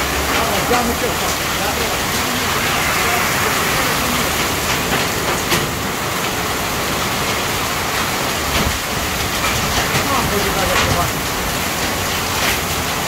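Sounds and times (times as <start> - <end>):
hail and rain pelting down: 0.0 - 13.0
hailstones ticking: 0.0 - 13.0.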